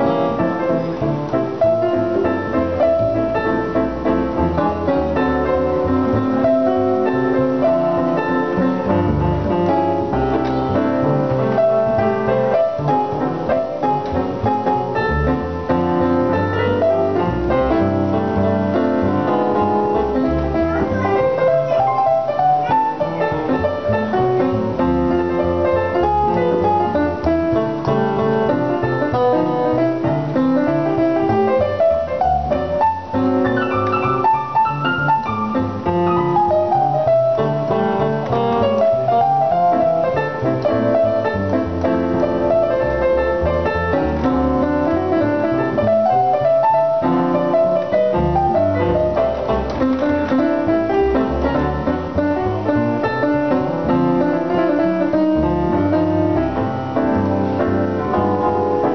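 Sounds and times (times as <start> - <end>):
digital piano: 0.0 - 58.9
plucked double bass: 0.0 - 58.9.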